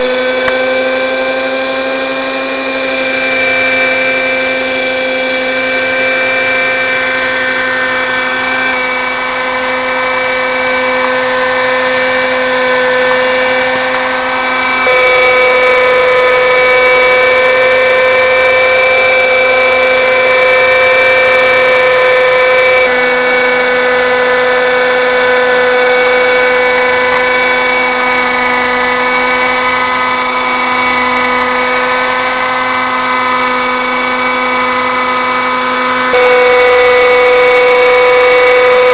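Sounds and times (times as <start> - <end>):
model helicopter engine whine: 0.0 - 38.9.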